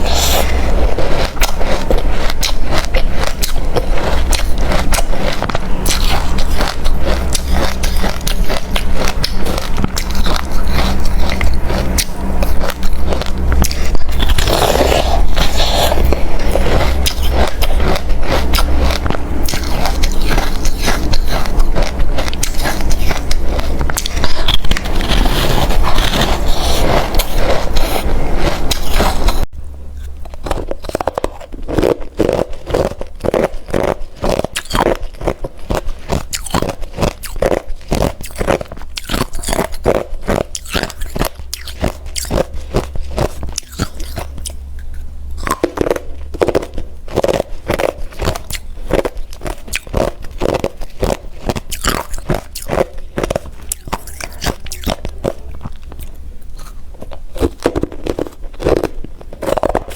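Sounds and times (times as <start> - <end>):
person chewing crunching ice: 0.0 - 59.9.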